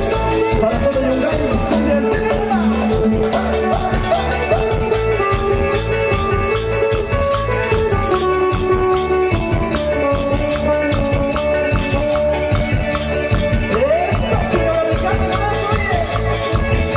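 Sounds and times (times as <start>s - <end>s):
latin dance music: 0.0s - 16.9s.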